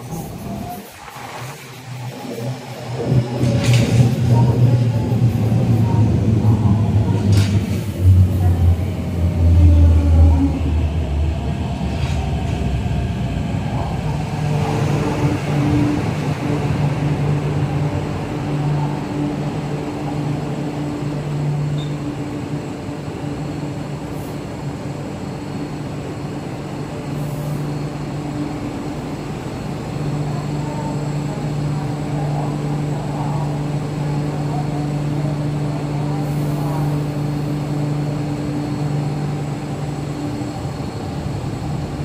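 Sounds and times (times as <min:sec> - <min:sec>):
electric train rumble and hum: 0:00.0 - 0:42.0.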